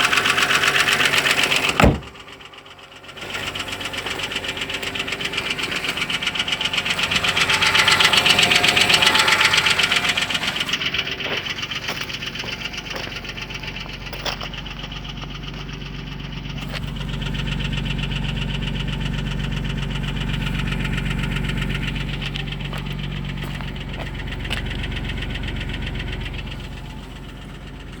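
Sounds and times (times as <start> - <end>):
car engine knocking: 0.0 - 28.0.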